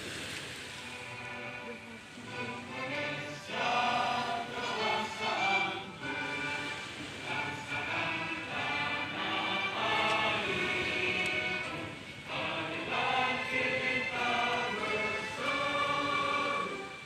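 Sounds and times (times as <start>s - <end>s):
choir singing slow song: 1.2s - 17.0s.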